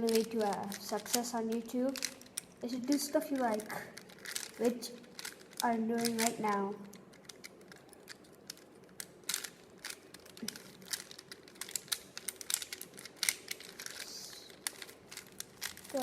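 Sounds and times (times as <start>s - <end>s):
puzzle cube clicking as twisted: 0.0s - 16.0s.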